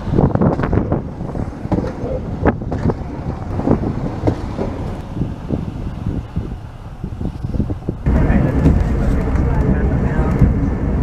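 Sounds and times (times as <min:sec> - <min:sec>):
railcar engine and wheel rumble: 0:00.0 - 0:11.0.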